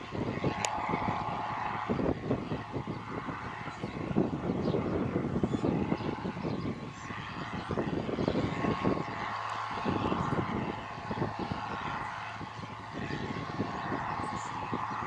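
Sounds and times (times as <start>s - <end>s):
low buffeting rumble: 0.0s - 15.0s.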